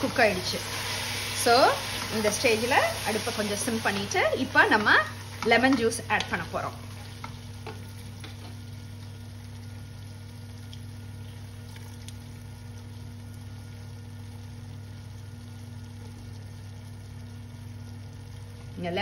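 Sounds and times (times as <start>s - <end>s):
pot simmering with faint sizzle: 0.0s - 19.0s.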